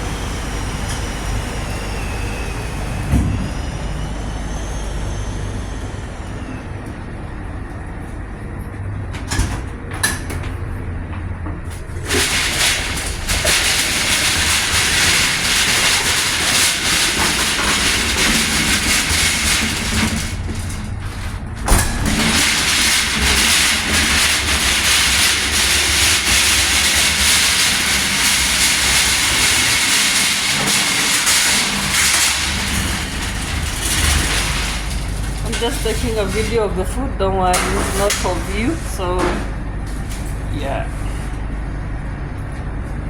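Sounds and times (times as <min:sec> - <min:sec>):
kitchen machinery hum: 0:00.0 - 0:43.0.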